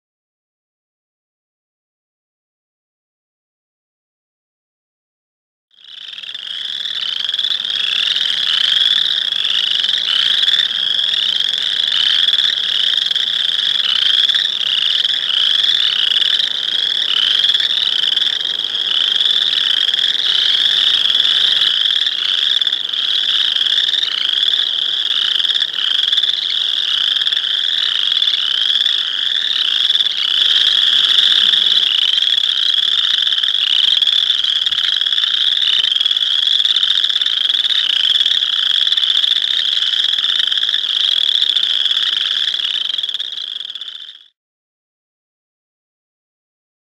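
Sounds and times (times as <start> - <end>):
frogs trilling: 5.7 - 44.3.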